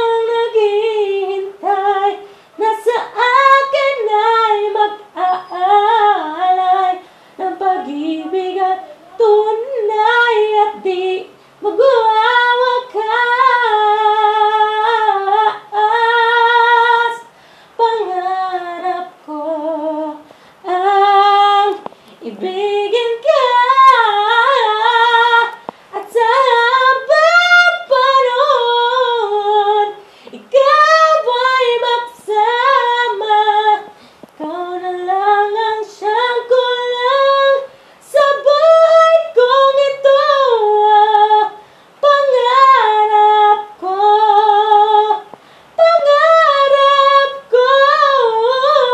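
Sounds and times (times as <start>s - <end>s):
woman singing solo: 0.0s - 48.9s.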